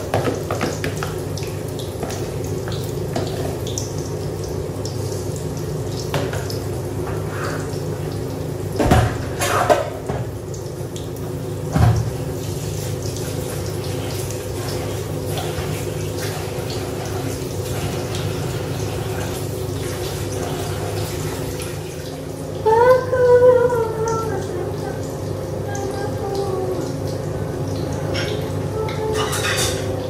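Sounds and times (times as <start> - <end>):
water running at a sink: 0.0 - 30.0.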